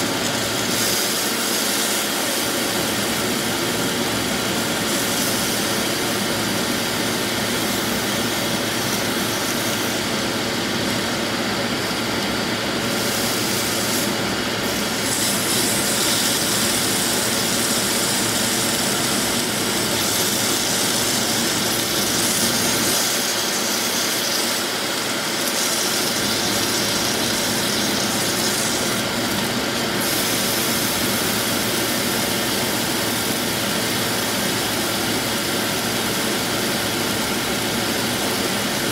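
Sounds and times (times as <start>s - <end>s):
meat sizzling in oil: 0.0s - 38.9s.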